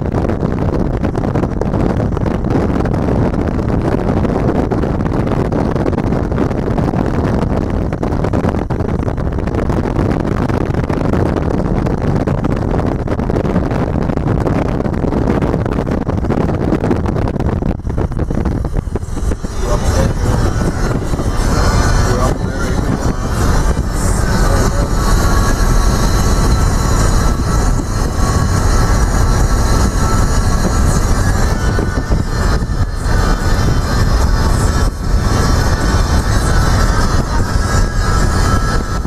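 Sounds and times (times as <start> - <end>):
road and wind noise in car: 0.0 - 39.0
music: 0.1 - 39.0.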